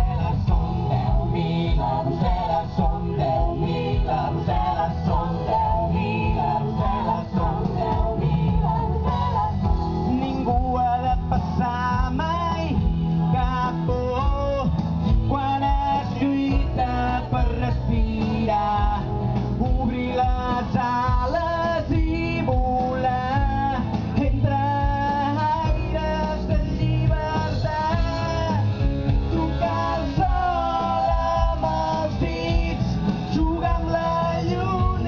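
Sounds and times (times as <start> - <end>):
instrumental backing music: 0.0 - 35.0
man singing into a microphone: 0.0 - 35.0.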